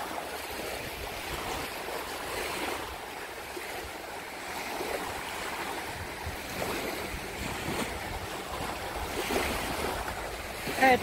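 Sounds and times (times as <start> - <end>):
small waves washing onto sand: 0.0 - 11.0
wind on microphone: 0.0 - 11.0.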